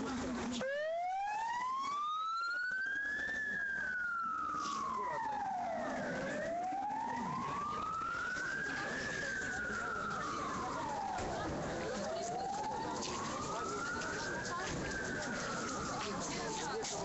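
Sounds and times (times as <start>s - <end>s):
emergency siren wailing: 0.4s - 17.0s.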